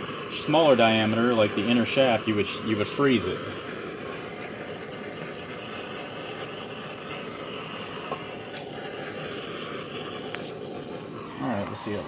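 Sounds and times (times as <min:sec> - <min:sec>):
propane torch hissing: 0:00.0 - 0:12.0.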